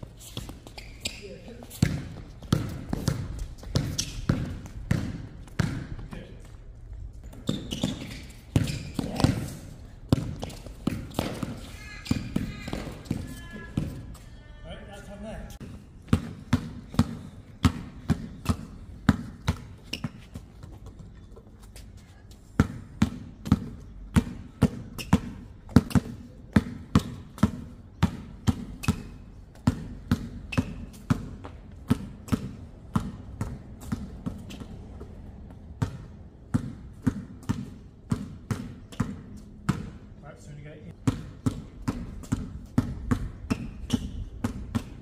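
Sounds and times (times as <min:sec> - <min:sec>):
basketball dribbling on court: 0:00.3 - 0:06.6, 0:07.2 - 0:14.2, 0:15.6 - 0:21.2, 0:22.6 - 0:40.0, 0:40.9 - 0:45.0.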